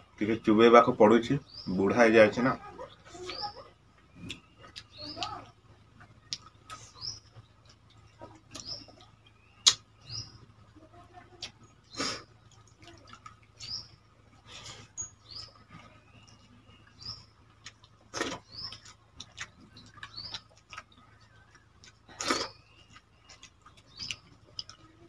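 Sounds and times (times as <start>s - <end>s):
chewing: 2.8s - 25.0s.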